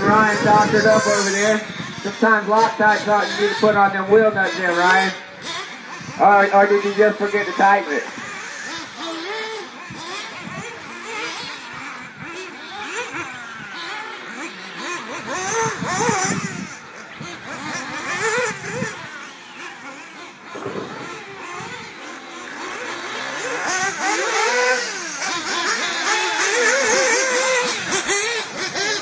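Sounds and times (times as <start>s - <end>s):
small model engines revving: 0.0s - 29.0s.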